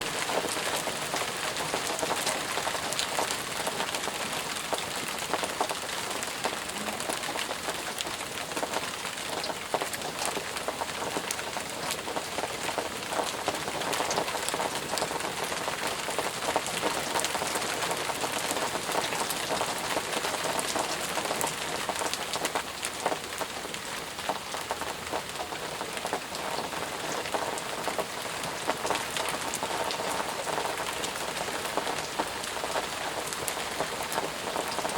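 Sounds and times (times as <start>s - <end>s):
heavy rain pattering: 0.0s - 34.9s.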